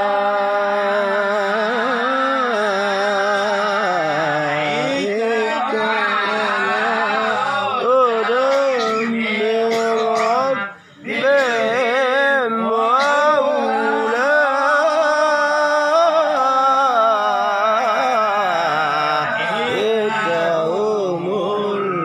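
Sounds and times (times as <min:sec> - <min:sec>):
man chanting melodic recitation: 0:00.0 - 0:22.0.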